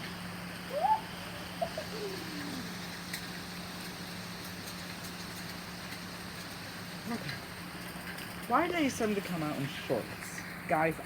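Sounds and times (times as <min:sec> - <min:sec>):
hail and rain falling: 0:00.0 - 0:11.0.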